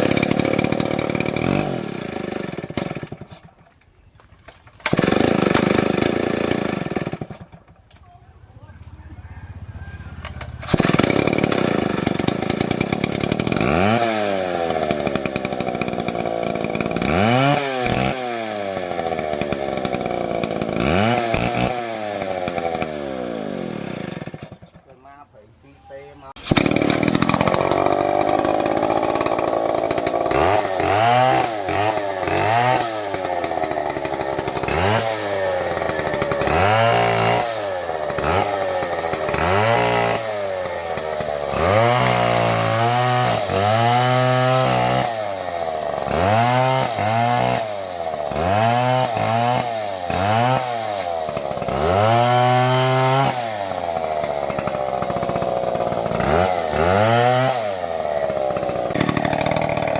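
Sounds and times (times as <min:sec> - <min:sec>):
chainsaw cutting into tree: 0:00.0 - 0:03.6, 0:04.8 - 0:07.7, 0:10.5 - 0:24.7, 0:26.4 - 0:59.9.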